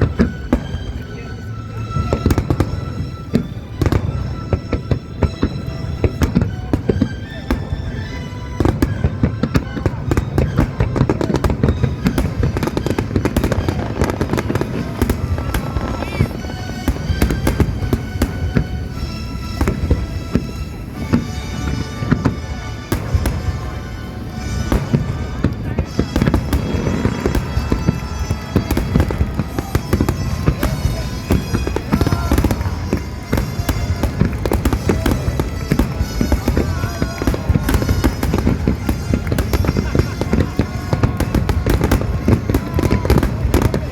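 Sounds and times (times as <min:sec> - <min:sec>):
fireworks bangs and crackling: 0:00.0 - 0:43.9
music playing: 0:00.0 - 0:43.9.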